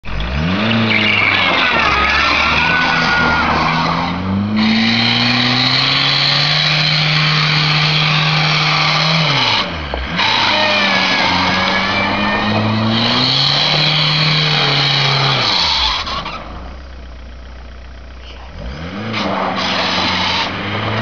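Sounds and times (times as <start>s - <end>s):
diesel engine revving hard: 0.1s - 16.8s, 18.5s - 21.0s
wheels spinning on snow: 0.1s - 17.1s, 18.6s - 21.0s.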